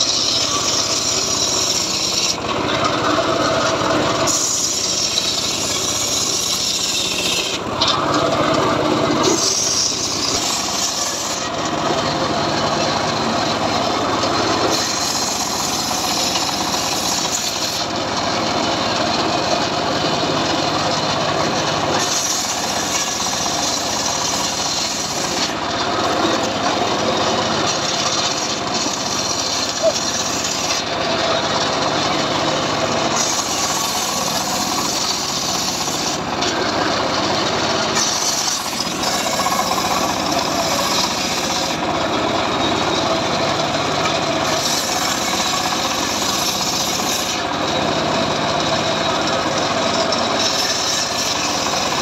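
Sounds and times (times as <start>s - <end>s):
circular saw cutting logs: 0.0s - 52.0s.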